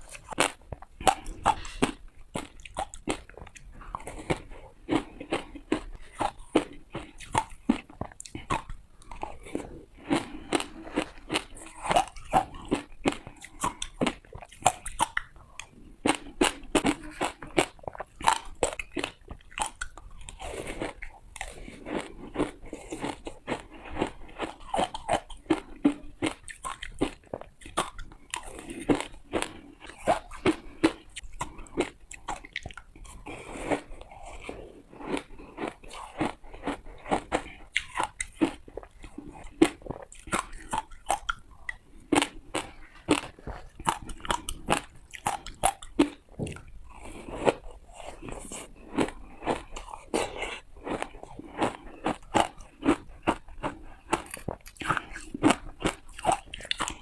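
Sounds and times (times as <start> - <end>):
person chewing hard ice: 0.0 - 57.0.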